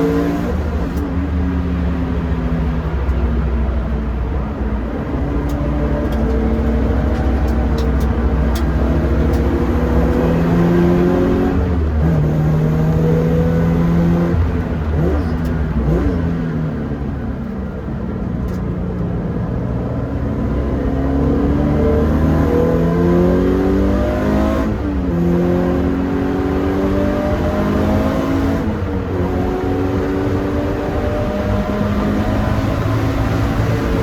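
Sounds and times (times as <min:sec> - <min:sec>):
car engine running hard: 0:00.0 - 0:34.0.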